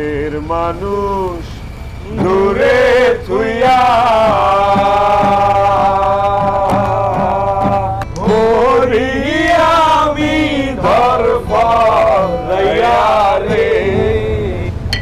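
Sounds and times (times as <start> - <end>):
acoustic guitar: 0.0 - 15.0
men singing together: 0.0 - 15.0.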